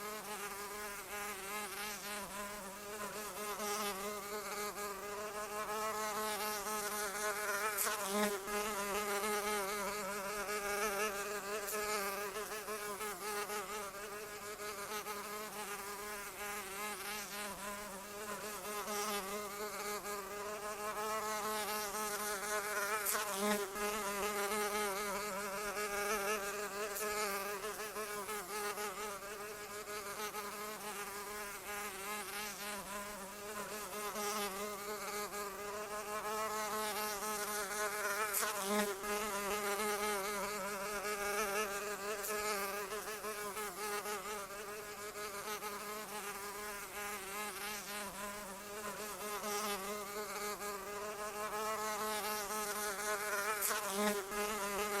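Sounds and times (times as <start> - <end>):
insect wings buzzing: 0.0 - 55.0.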